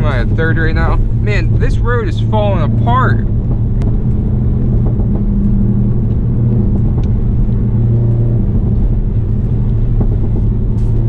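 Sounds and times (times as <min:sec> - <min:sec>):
car engine droning: 0:00.0 - 0:11.0
tyre and road noise: 0:00.0 - 0:11.0.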